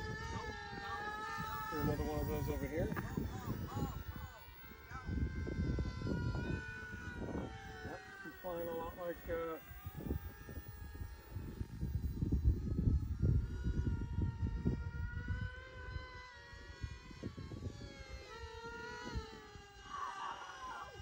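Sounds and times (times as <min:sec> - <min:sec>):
wind buffeting microphone: 0:00.0 - 0:20.0
model plane motor whining: 0:00.0 - 0:21.0.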